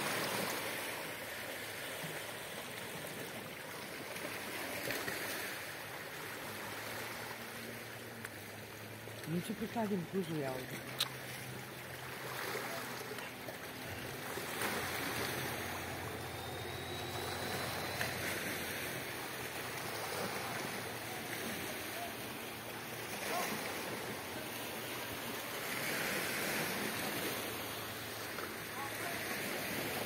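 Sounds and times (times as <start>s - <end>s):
waves washing against rocks: 0.0s - 7.5s, 11.8s - 30.0s.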